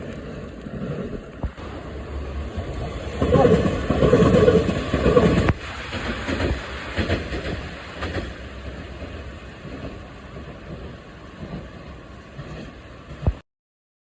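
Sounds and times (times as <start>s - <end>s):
train passing: 0.0s - 13.4s
train wheels clicking over rail joints: 0.0s - 13.4s.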